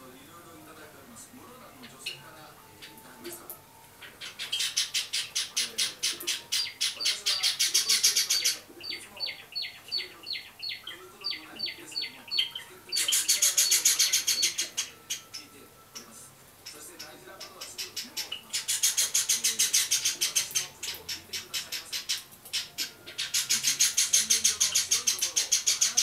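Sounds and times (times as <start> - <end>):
sparrow chick calling: 4.0 - 26.0.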